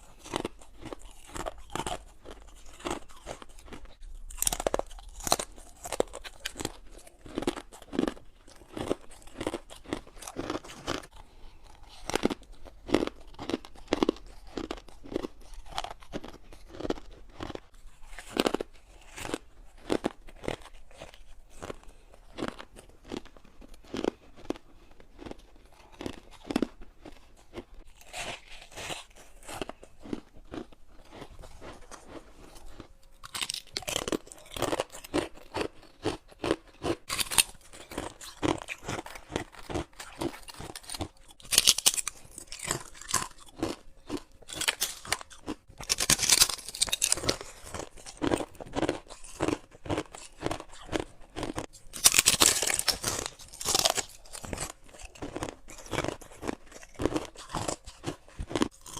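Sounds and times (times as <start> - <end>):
person crunching ice: 0.0 - 58.9.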